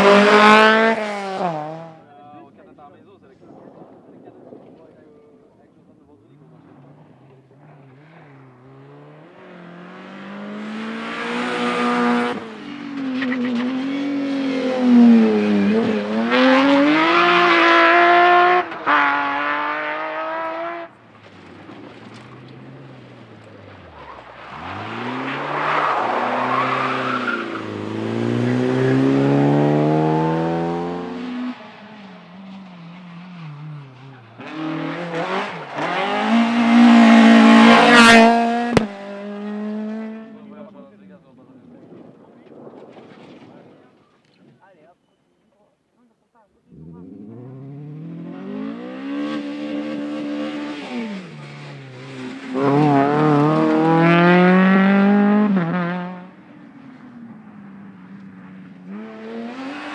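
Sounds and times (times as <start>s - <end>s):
rally car engines revving: 0.0s - 3.4s, 5.9s - 44.4s, 46.6s - 59.9s.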